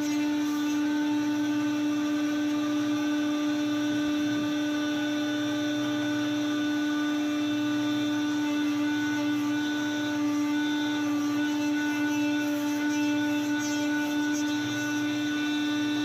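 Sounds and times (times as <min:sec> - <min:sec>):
sawmill machinery whining hum: 0:00.0 - 0:16.0.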